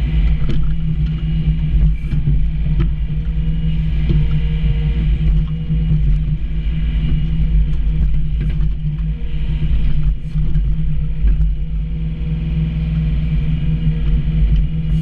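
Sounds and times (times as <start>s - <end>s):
mini excavator running: 0.0s - 15.0s.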